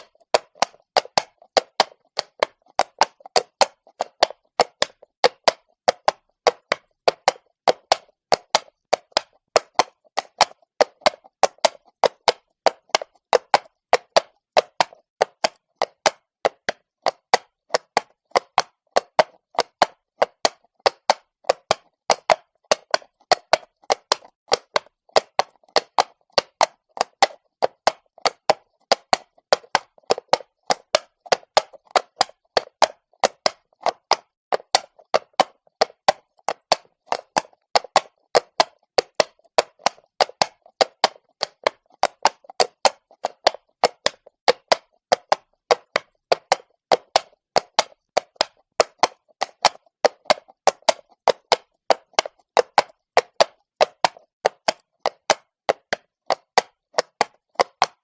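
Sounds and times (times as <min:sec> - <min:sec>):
horse hooves on stone: 0:00.0 - 0:58.0.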